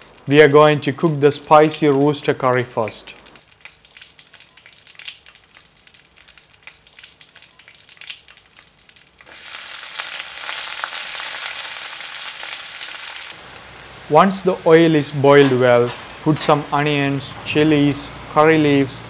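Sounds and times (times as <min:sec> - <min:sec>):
oil crackling and sizzling: 0:00.0 - 0:14.1, 0:15.0 - 0:17.4.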